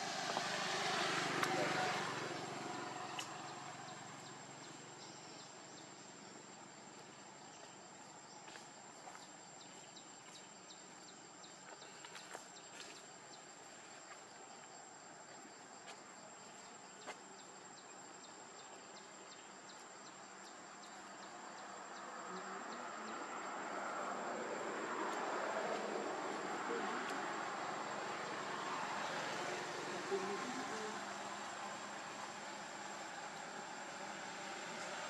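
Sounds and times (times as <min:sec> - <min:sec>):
insect chorus chirping: 0:00.0 - 0:35.0.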